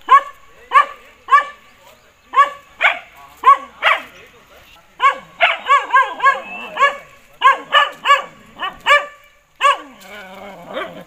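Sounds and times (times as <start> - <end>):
dog barking: 0.0 - 1.6, 2.3 - 4.2, 5.0 - 11.0.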